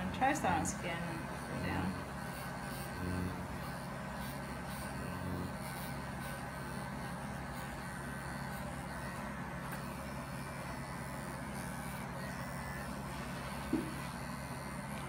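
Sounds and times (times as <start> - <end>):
electric clippers humming: 0.0 - 15.0.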